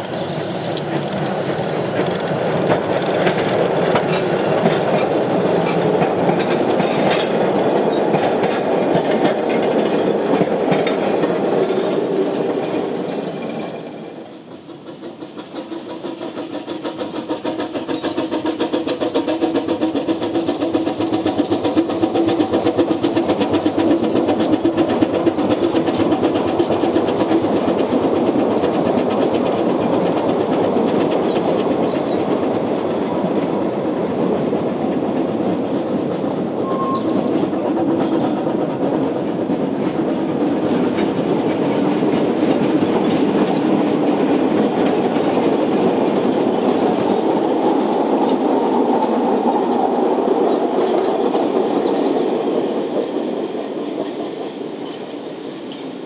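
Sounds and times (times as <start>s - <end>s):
steam locomotive chuffing: 0.0s - 56.0s
steam train passing: 0.0s - 56.0s.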